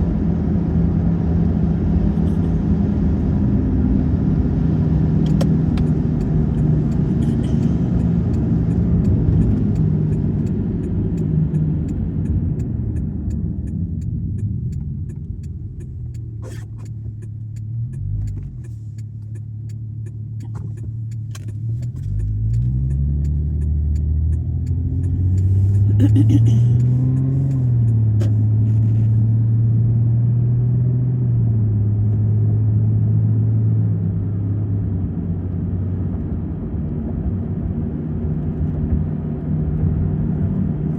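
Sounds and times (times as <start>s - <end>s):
car engine hum: 0.0s - 40.9s
road noise: 0.0s - 40.9s.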